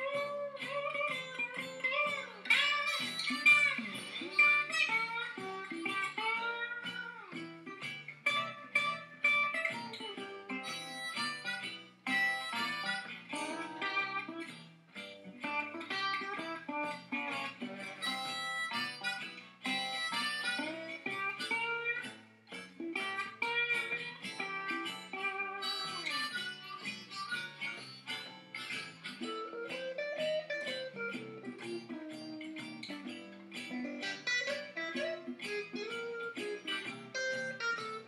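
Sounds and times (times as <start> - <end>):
harmonica bent notes: 0.0 - 38.0
plucked guitar: 0.0 - 38.0.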